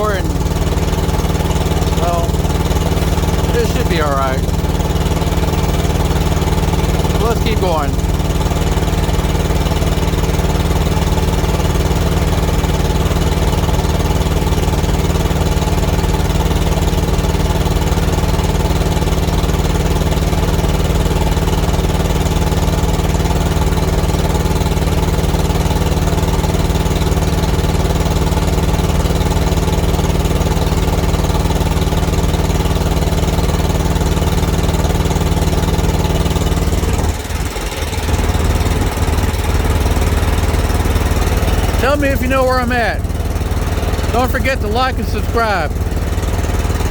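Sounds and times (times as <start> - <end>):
diesel engine running rough: 0.0 - 46.9.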